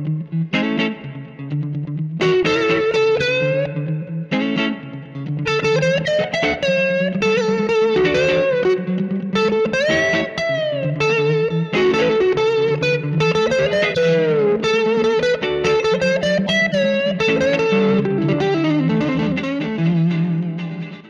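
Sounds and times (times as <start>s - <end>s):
electric guitar blues lead: 0.0s - 21.0s
looped guitar rhythm part: 0.0s - 21.0s.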